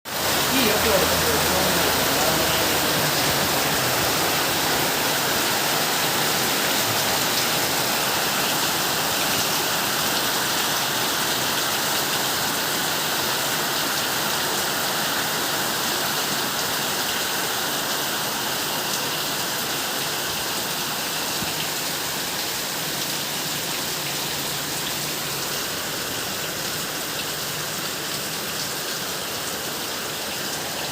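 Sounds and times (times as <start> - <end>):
heavy rain splashing: 0.1 - 30.9.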